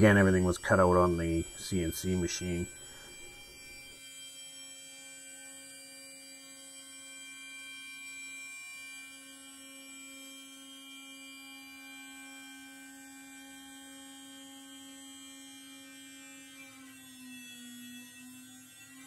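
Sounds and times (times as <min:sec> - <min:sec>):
router motor whine: 0:00.0 - 0:19.0.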